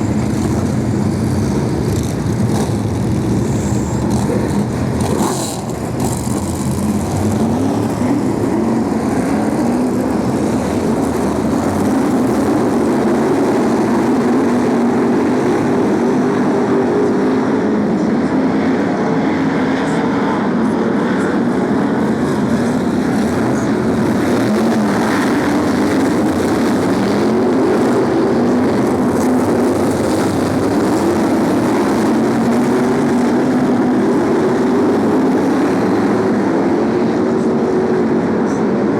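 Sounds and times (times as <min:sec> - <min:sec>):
racing car engines passing: 0:00.0 - 0:38.9.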